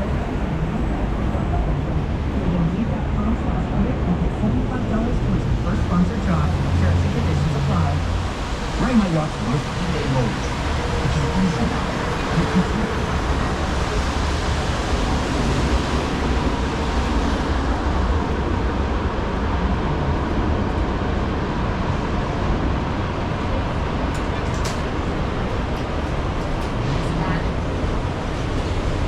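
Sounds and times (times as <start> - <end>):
traffic on wet roads: 0.0 - 29.0.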